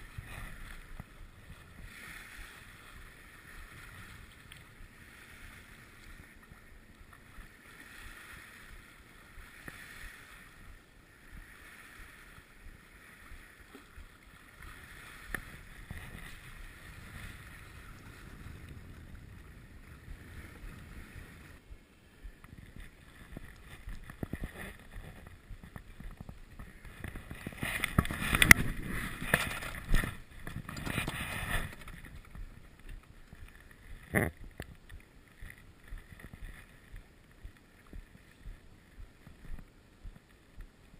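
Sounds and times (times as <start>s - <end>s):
water washing along boat hull: 0.0s - 40.9s
wind on microphone: 0.0s - 40.9s.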